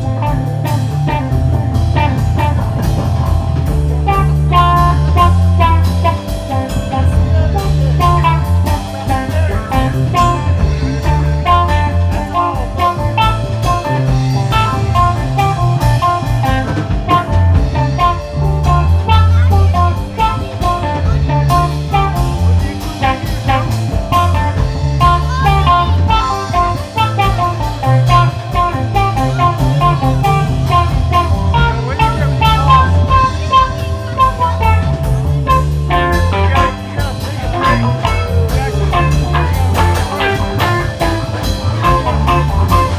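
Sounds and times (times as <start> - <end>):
blues music: 0.0 - 42.9
drums: 0.0 - 42.9
electric guitar: 0.0 - 42.9.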